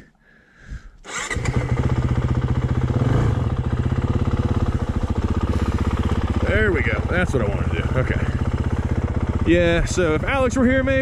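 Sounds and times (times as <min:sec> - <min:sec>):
dirt bike engine starting and running: 0:01.0 - 0:11.0.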